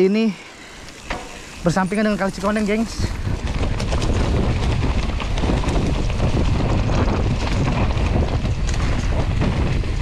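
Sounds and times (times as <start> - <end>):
wind buffeting microphone: 0.7 - 10.0
bike tyres clattering on ground: 0.8 - 10.0.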